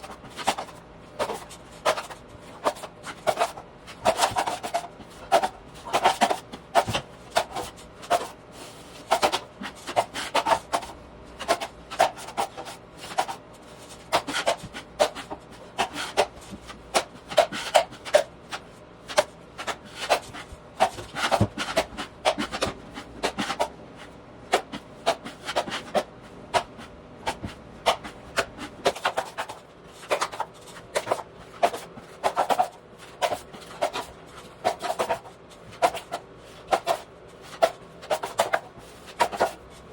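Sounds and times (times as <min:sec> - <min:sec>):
hand tool scraping drywall: 0:00.0 - 0:39.9.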